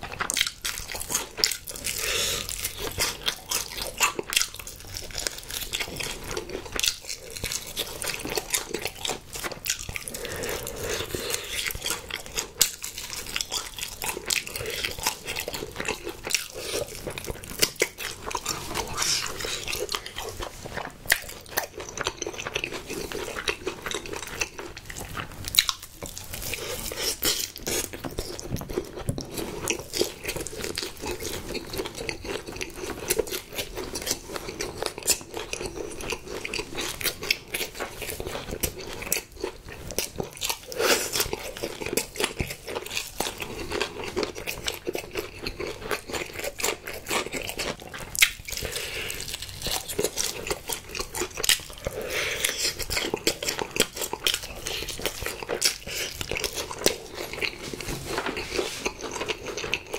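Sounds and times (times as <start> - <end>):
chewing and crunching fried chicken: 0.0 - 59.9.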